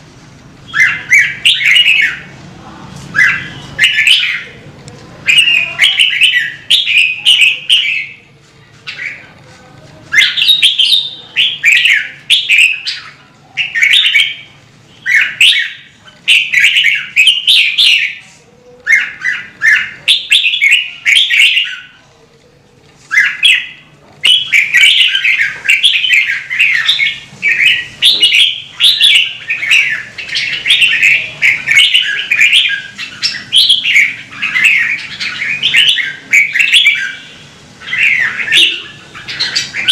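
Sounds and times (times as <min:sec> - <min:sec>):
bird singing warbling phrases: 0:00.6 - 0:02.4, 0:03.1 - 0:09.4, 0:10.0 - 0:22.1, 0:23.0 - 0:39.9.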